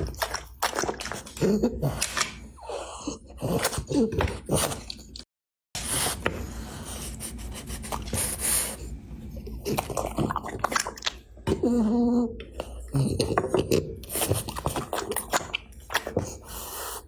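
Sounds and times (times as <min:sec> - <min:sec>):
dog snorting and chewing: 0:00.0 - 0:05.2, 0:05.8 - 0:17.0.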